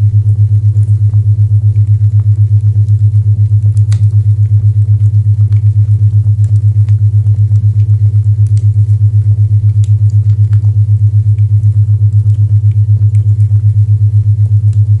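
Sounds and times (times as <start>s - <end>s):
pulsing low humming tone: 0.0s - 15.0s.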